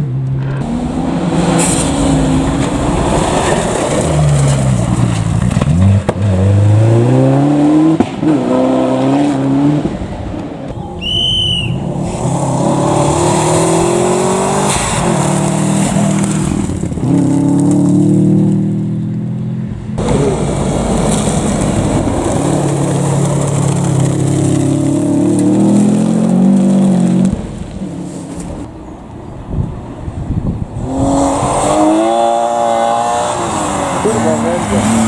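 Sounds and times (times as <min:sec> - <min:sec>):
rally car engines revving: 0:00.0 - 0:18.9, 0:19.7 - 0:28.7, 0:30.7 - 0:35.0.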